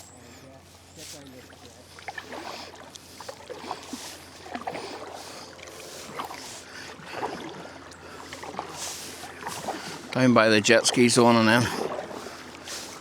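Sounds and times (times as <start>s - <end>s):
paddle splashing in water: 1.0s - 13.0s.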